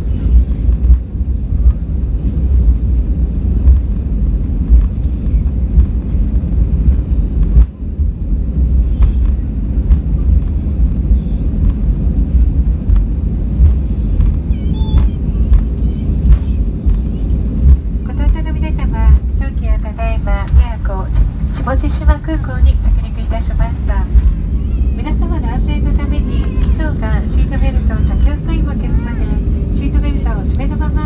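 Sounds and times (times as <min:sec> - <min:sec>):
aircraft cabin low rumble: 0:00.0 - 0:31.0.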